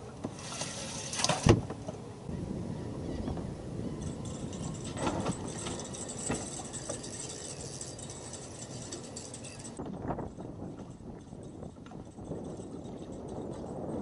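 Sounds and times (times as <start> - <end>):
wind buffeting microphone: 2.3 - 14.0.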